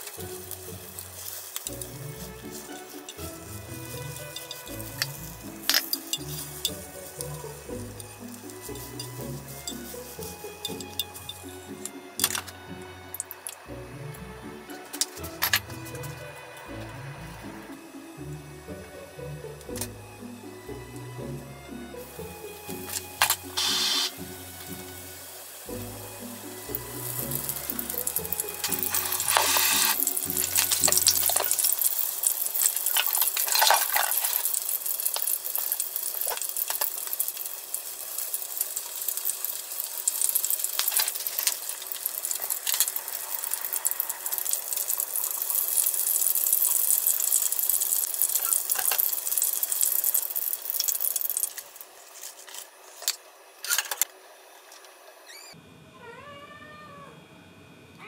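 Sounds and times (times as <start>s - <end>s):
deep-frying sizzle: 0.0s - 53.5s.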